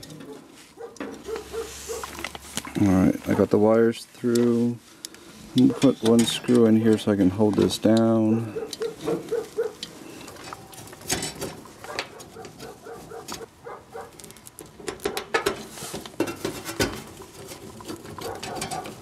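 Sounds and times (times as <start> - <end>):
hands handling metal: 0.0 - 19.0.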